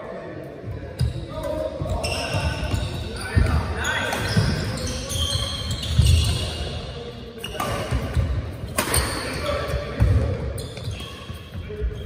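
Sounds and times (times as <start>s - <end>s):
shoes squeaking on court floor: 0.9s - 12.0s.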